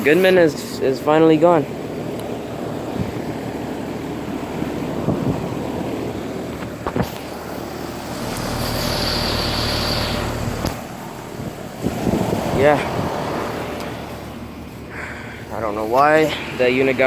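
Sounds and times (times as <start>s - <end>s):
air conditioner fan and compressor hum: 0.0s - 17.0s
rushing air: 2.6s - 16.6s.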